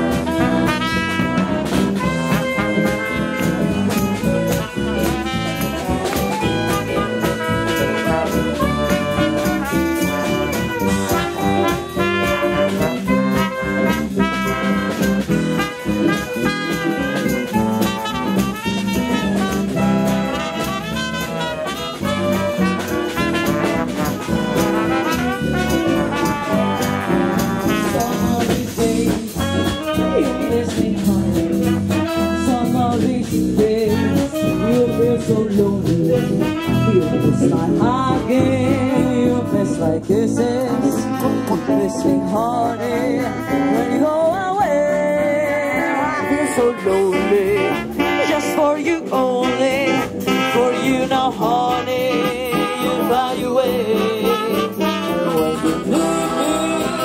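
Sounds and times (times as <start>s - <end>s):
bass: 0.0s - 57.0s
drums: 0.0s - 57.0s
guitar: 0.0s - 57.0s
horn melody: 0.0s - 57.0s.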